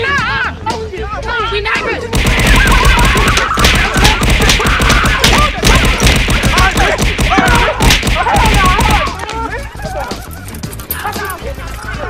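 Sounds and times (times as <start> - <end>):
music: 0.0 - 12.0
people shouting: 0.0 - 12.0.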